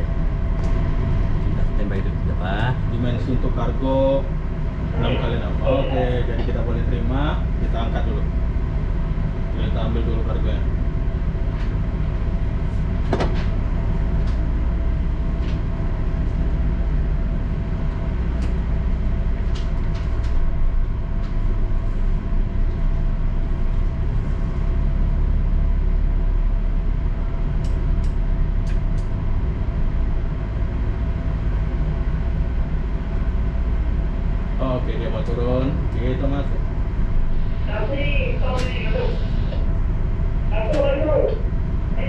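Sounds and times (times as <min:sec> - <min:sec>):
ship engines droning: 0:00.0 - 0:42.0.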